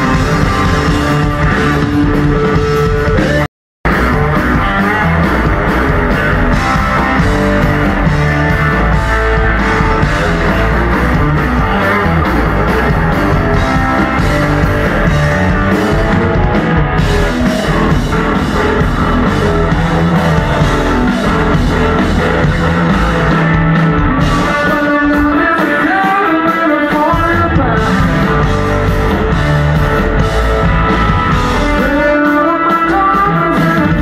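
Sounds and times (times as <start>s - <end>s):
live hard rock band: 0.0s - 34.0s.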